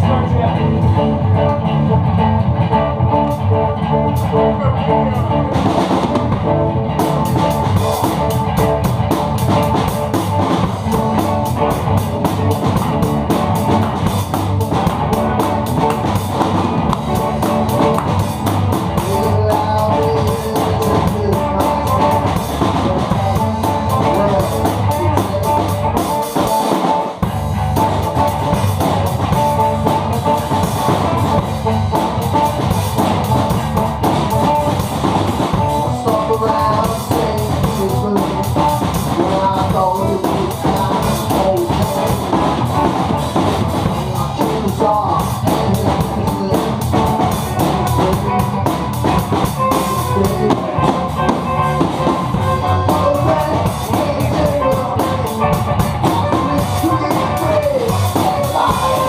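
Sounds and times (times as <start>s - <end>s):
rock band jamming: 0.0s - 59.0s.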